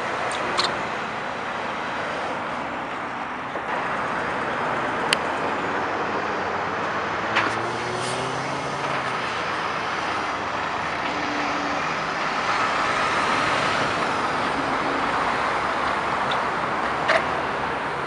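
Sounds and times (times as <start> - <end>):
diesel truck engine running: 0.0 - 18.0
traffic noise: 0.0 - 18.0.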